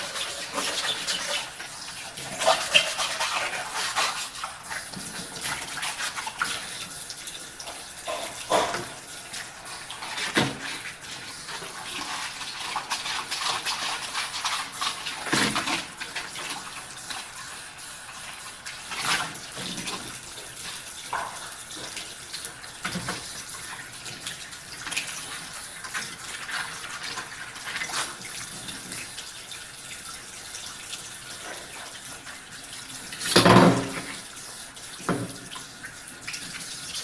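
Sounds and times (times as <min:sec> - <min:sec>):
tap water running into sink: 0:00.0 - 0:37.0.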